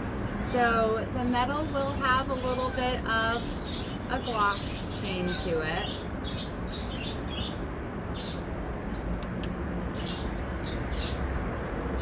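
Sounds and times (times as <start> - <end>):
low outdoor rumble: 0.0 - 12.0
small birds chirping: 1.4 - 9.1, 9.9 - 12.0.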